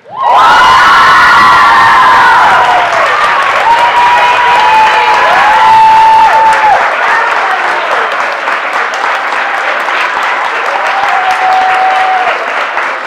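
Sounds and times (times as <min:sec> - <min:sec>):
audience applauding: 0:00.2 - 0:13.0.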